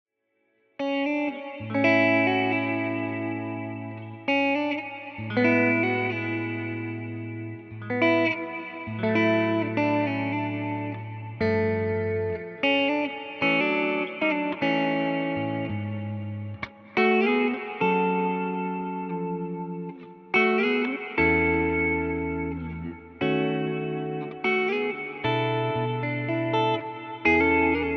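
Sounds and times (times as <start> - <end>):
electric guitar chords ringing: 0.8 - 27.9.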